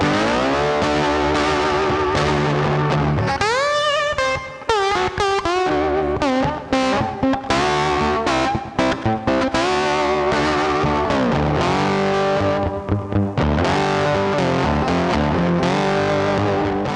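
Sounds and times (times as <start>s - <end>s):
rock music with distorted guitar: 0.0s - 16.9s.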